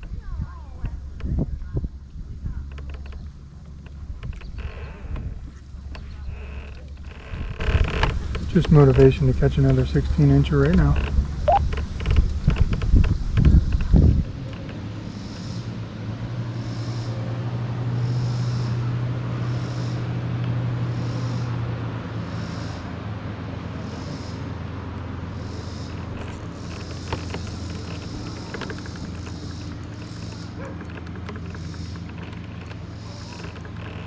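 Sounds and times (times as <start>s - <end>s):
boat engine low hum: 0.0s - 34.0s.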